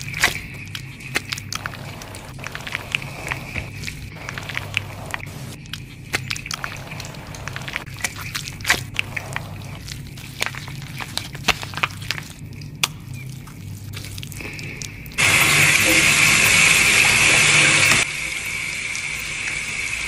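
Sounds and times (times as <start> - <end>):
hands rubbing wet skin: 0.0 - 16.3
steady low hum: 0.0 - 20.0.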